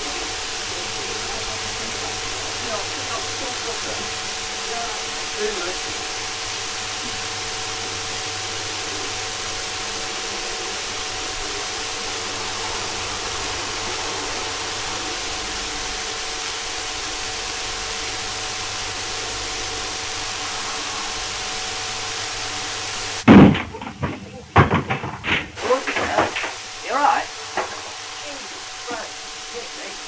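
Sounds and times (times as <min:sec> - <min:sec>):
faint low hum: 0:00.0 - 0:30.0
steady hiss: 0:00.0 - 0:30.0
thin high whine: 0:00.0 - 0:30.0.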